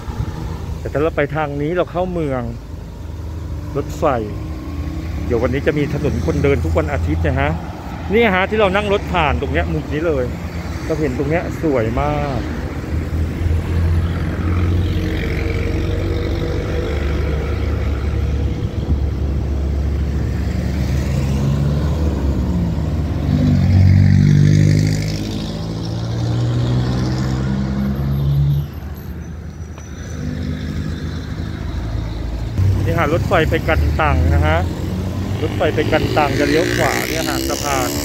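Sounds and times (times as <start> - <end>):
cars and motorbikes driving past: 0.0 - 38.0.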